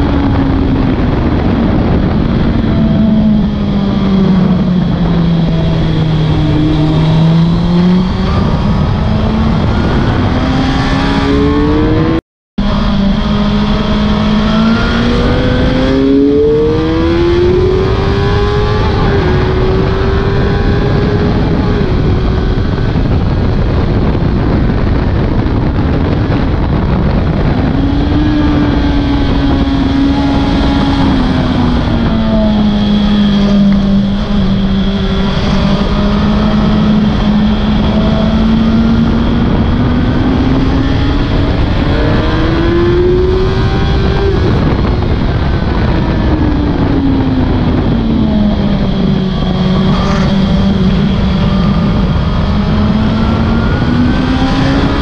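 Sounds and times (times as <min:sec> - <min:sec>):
loud wind noise: 0:00.0 - 0:55.0
sport bike engine accelerating: 0:00.0 - 0:55.0.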